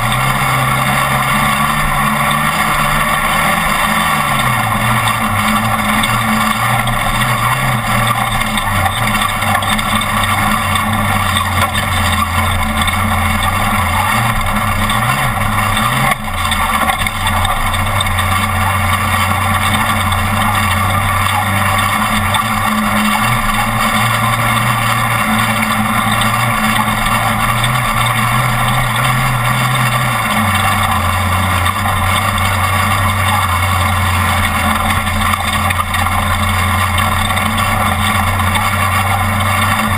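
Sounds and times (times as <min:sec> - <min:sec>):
race truck engine running hard: 0:00.0 - 0:39.9
wind and road noise: 0:00.0 - 0:39.9.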